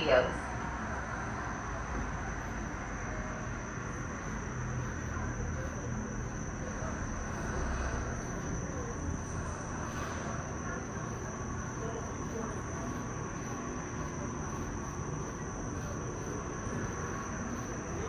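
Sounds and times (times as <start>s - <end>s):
gondola cabin rumble and hiss: 0.0s - 18.0s.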